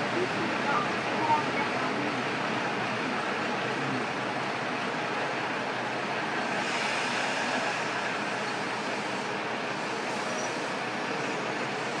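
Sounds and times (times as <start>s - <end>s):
diesel railcar interior noise: 0.0s - 12.0s.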